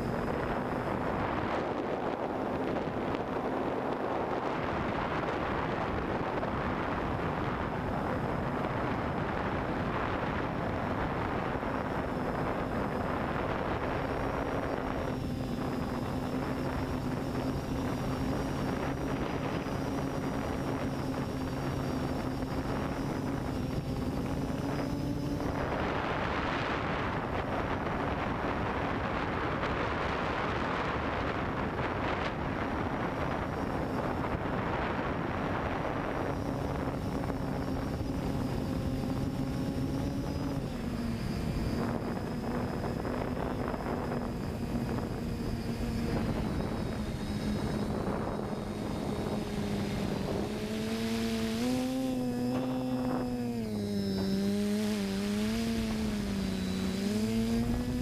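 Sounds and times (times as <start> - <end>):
drone motors whining: 0.0 - 58.0
wind rushing over microphone: 0.0 - 58.0.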